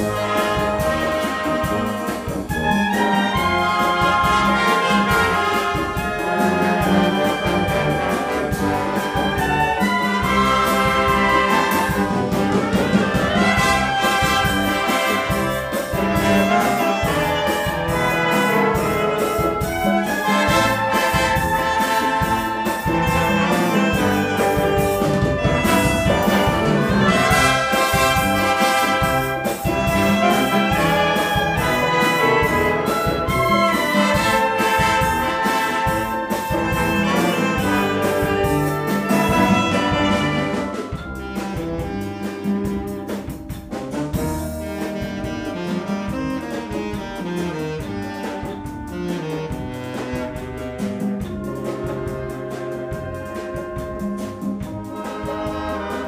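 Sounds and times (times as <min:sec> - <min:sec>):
wind band playing: 0:00.0 - 0:56.0.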